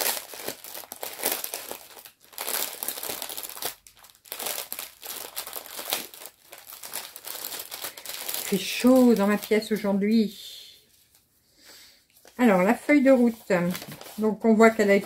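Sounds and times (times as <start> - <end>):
plastic bag crinkling: 0.0 - 10.4, 12.1 - 15.0.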